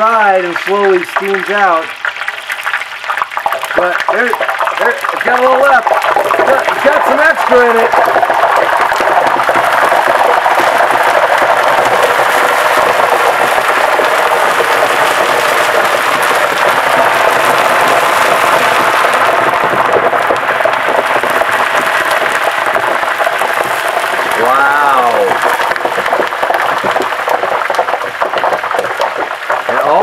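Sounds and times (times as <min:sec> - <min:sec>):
hot oil sizzling and crackling: 0:00.0 - 0:30.0.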